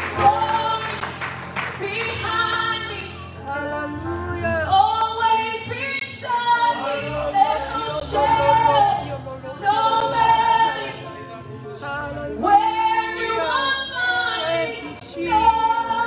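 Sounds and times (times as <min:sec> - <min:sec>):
women singing: 0:00.0 - 0:01.1, 0:01.8 - 0:11.1, 0:11.9 - 0:16.0
keyboard: 0:00.0 - 0:16.0.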